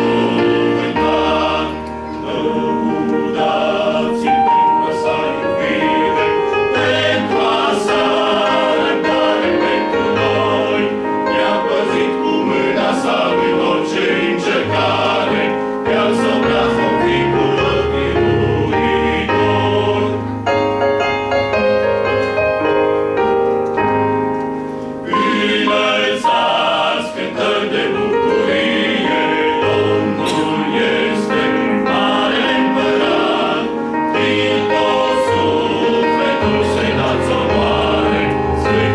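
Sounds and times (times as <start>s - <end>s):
men's choir singing a hymn: 0.0s - 21.3s, 25.0s - 38.9s.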